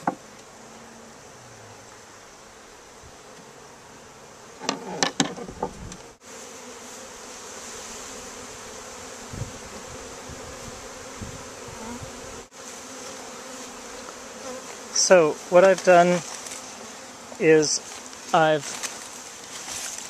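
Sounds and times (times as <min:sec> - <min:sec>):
bee swarm buzzing: 0:00.0 - 0:20.0.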